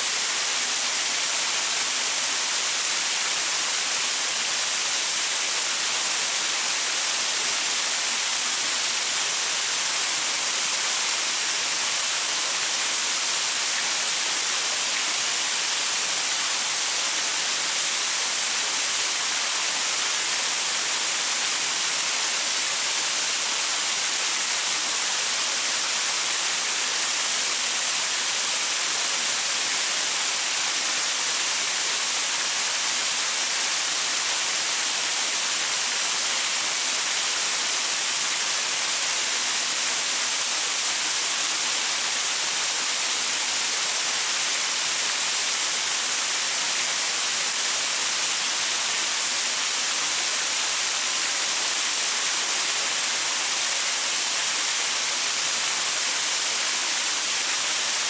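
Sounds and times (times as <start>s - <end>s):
waterfall pouring over rocks: 0.0s - 58.0s.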